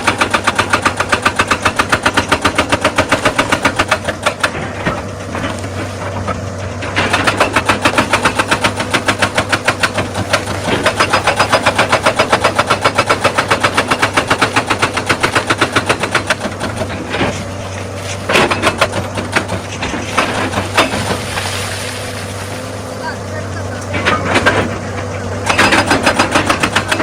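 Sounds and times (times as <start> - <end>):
diesel engine running: 0.0 - 27.0
hydraulic breaker hammering stone: 0.0 - 27.0.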